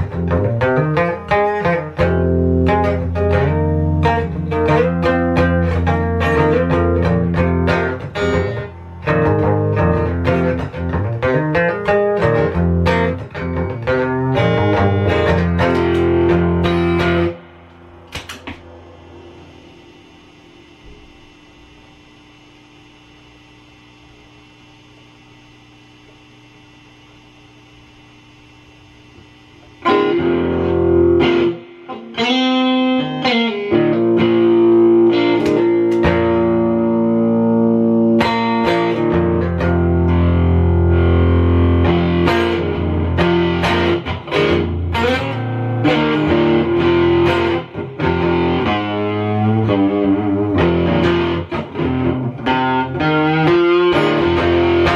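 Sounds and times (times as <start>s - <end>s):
distorted electric guitar: 0.0s - 54.9s
faint amplifier hum: 0.0s - 54.9s.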